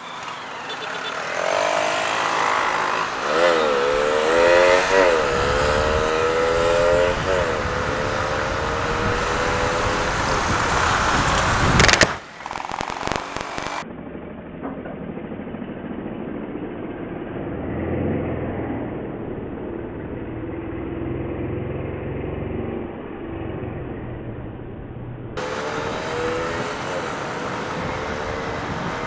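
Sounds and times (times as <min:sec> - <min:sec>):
road and wind noise: 0:00.0 - 0:29.0
motorcycle engine running: 0:00.4 - 0:29.0.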